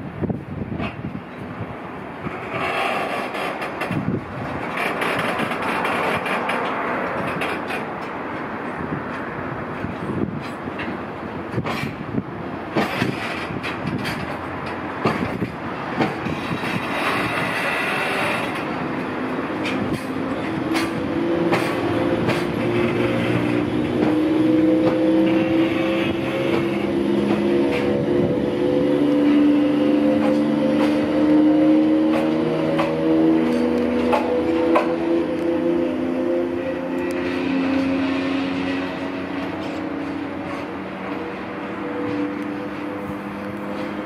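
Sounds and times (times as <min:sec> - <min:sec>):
locomotive drone: 0:00.0 - 0:44.0
train wheels rumbling on rails: 0:00.0 - 0:44.0.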